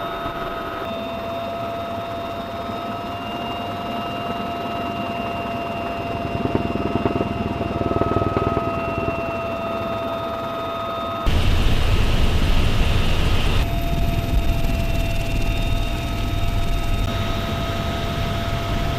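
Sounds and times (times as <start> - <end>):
helicopter turbine whine: 0.0 - 18.9.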